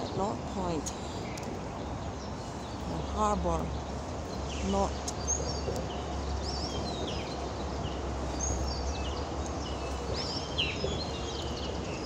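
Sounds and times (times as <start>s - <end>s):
low city background hum: 0.0s - 12.0s
small birds chirping: 0.0s - 12.0s.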